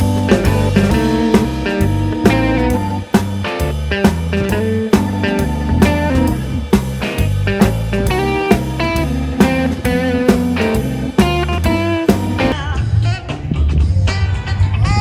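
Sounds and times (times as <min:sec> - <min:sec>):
bluesy band music: 0:00.0 - 0:12.6.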